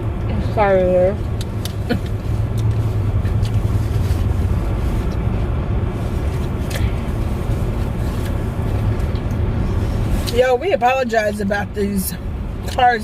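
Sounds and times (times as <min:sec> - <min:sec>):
idling cars rumbling: 0:00.0 - 0:13.0.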